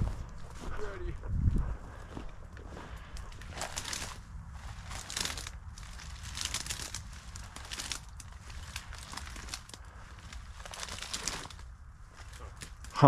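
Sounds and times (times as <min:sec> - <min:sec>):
branches crackling and scraping: 0:00.0 - 0:13.0.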